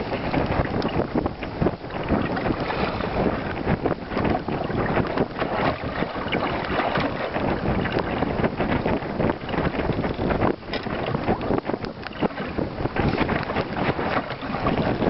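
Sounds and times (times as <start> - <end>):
waves slapping against hull: 0.0 - 15.0
wind buffeting microphone: 0.0 - 15.0.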